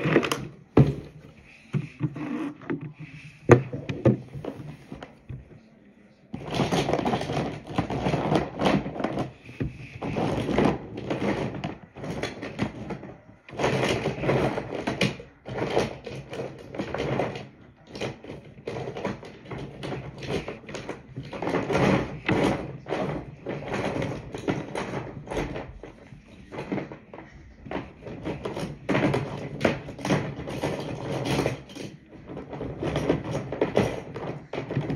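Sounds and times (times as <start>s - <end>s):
rustling and scraping handling noise: 0.0s - 34.9s.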